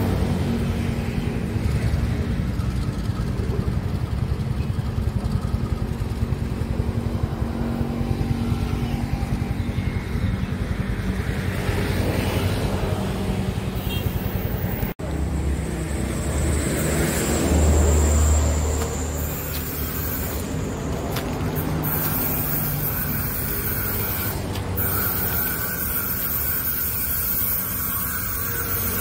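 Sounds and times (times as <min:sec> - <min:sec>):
diesel locomotive engine drone: 0:00.0 - 0:29.0
road traffic noise: 0:00.0 - 0:29.0.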